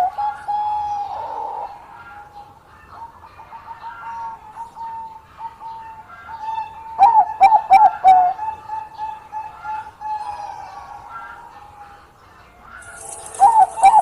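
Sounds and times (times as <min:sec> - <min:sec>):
doves cooing: 0:00.0 - 0:12.1, 0:12.7 - 0:14.0.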